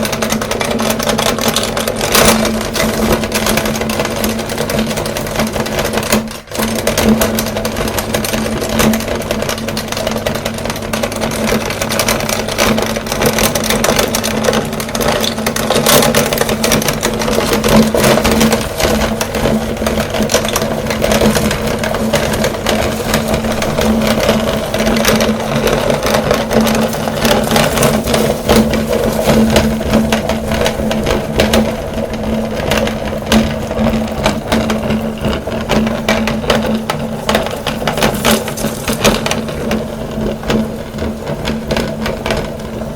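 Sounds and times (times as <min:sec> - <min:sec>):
candy crackling in grinder: 0:00.0 - 0:42.9
meat grinder motor humming: 0:00.0 - 0:42.9.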